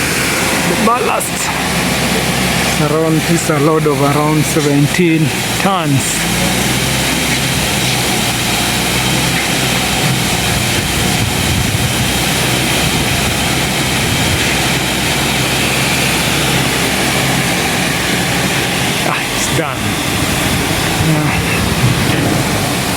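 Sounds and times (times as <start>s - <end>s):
truck engine running: 0.0s - 22.9s.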